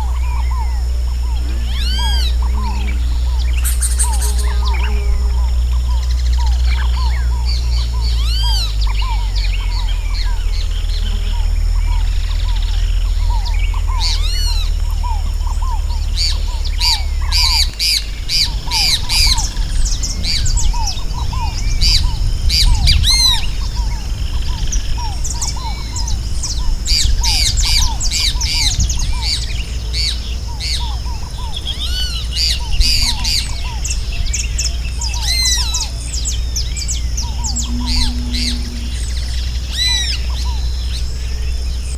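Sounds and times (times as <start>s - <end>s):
repeated low bird note: 0.0s - 28.0s, 32.6s - 41.9s
birds chirping and squawking: 0.0s - 41.9s
steady low rumble: 0.0s - 41.9s.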